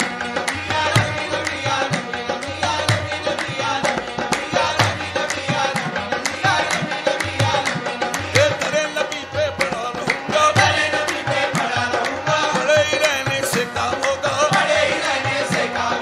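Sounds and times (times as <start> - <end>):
tabla playing: 0.0 - 16.0.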